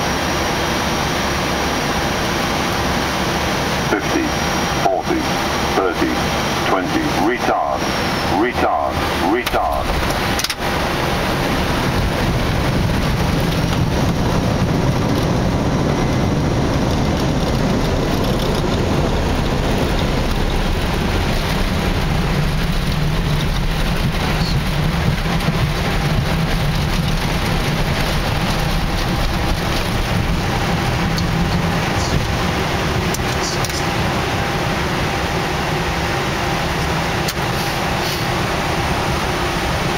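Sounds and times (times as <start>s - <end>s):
aircraft engine noise: 0.0s - 39.9s
low rumble: 1.6s - 36.5s.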